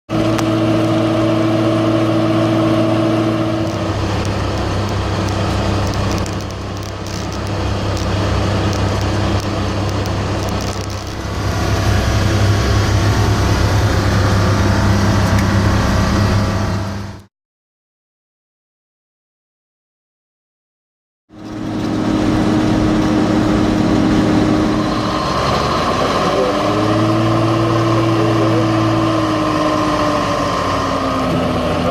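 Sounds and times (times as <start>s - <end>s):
fire truck engine running: 0.1s - 17.3s, 21.3s - 31.9s.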